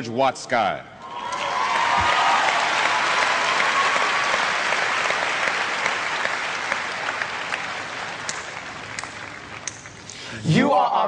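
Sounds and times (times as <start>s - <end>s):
audience applauding: 1.1s - 10.1s.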